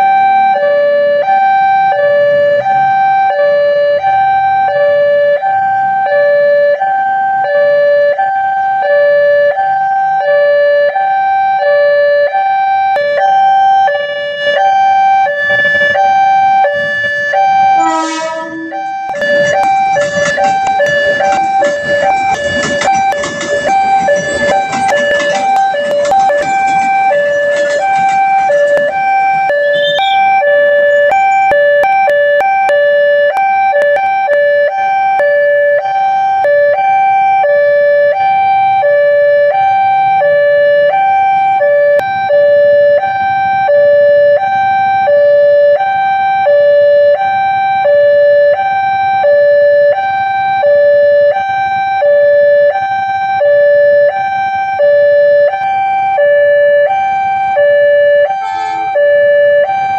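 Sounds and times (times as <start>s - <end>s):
two-tone level-crossing siren: 0.0s - 59.9s.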